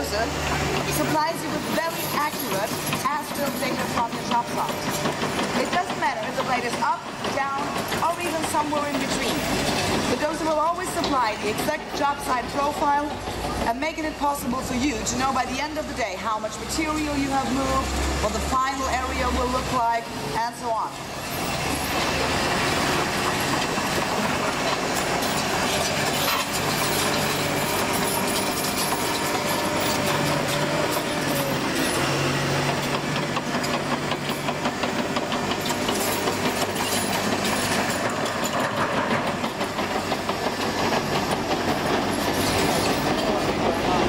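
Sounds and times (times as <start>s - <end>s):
bulldozer diesel engine under load: 0.0s - 44.0s
steel tracks clanking: 0.0s - 44.0s.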